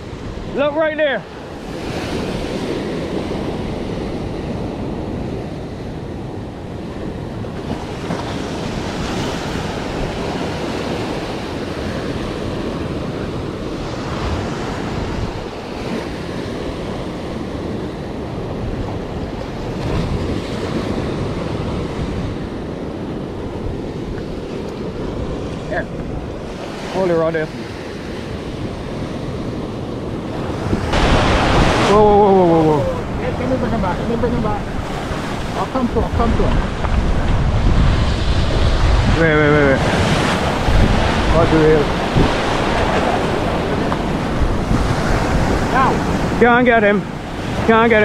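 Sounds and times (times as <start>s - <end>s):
surf washing over rocky shoreline: 0.0s - 48.0s.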